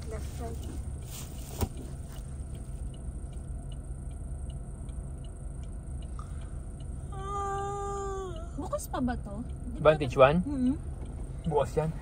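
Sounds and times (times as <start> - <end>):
car engine idling: 0.0 - 12.0
turn signal ticking: 0.0 - 12.0.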